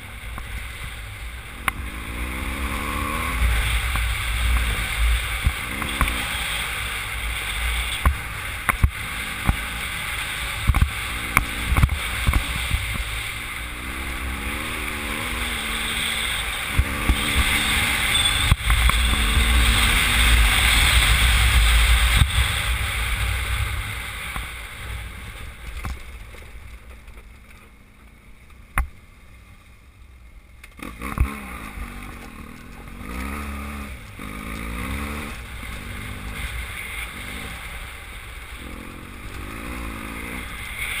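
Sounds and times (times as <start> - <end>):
motorcycle engine: 0.0 - 41.0.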